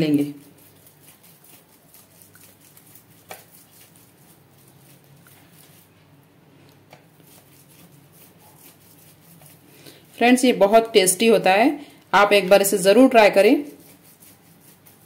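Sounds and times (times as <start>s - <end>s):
lemon rubbing on corn cob: 0.0s - 6.1s, 7.0s - 11.6s, 12.2s - 15.0s.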